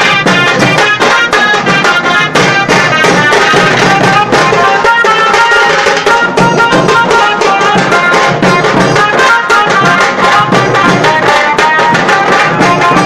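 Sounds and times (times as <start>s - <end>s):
music with fast dense drums: 0.0s - 13.0s.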